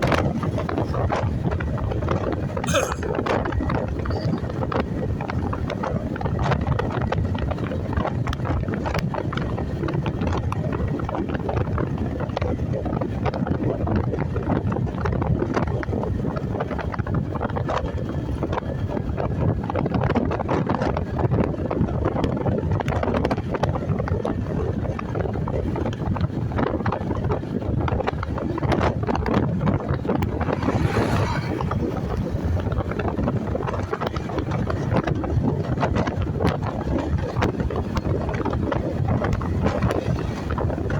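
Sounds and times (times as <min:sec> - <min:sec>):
motorcycle engine and road noise: 0:00.0 - 0:40.9
wind buffeting microphone: 0:00.0 - 0:40.9.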